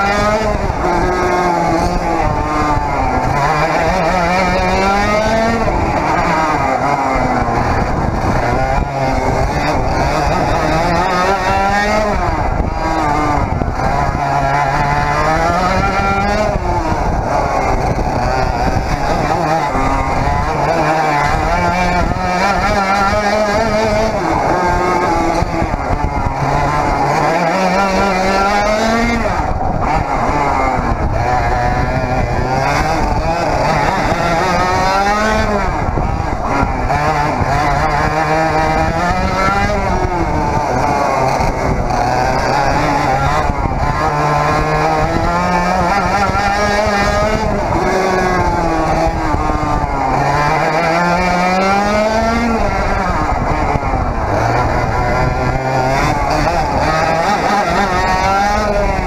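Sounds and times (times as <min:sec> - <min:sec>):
two-stroke kart engine revving: 0:00.0 - 0:59.0.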